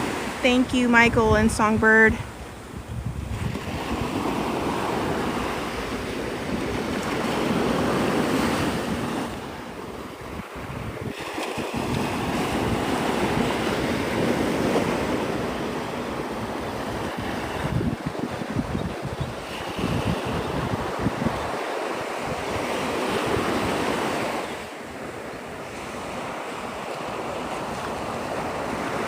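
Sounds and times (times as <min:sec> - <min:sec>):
surf washing onto beach: 0:00.0 - 0:29.0
wind buffeting microphone: 0:00.0 - 0:29.0.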